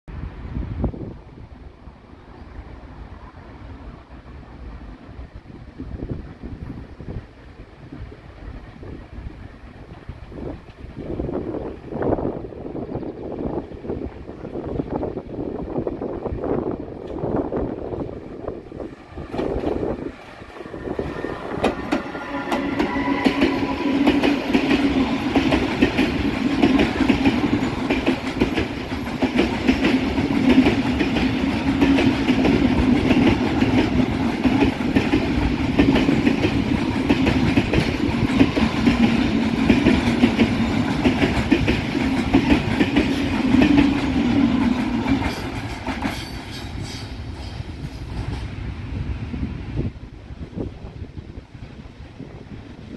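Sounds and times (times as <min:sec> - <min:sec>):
train drone: 0:00.1 - 0:52.9.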